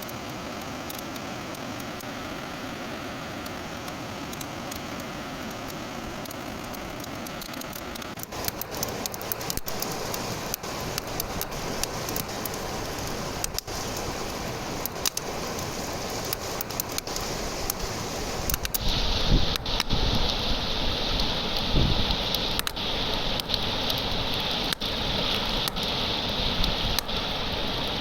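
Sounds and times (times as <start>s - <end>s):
campfire crackling and popping: 0.0s - 28.0s
steady fire hiss: 0.0s - 28.0s.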